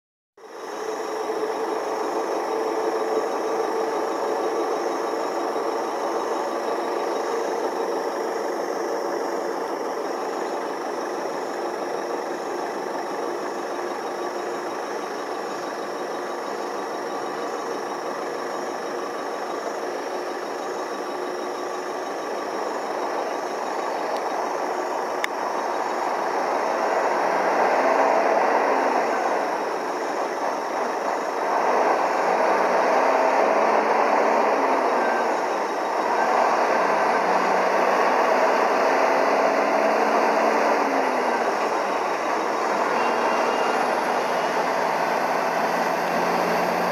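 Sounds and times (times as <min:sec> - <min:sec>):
diesel truck engines idling: 0:00.4 - 0:46.9.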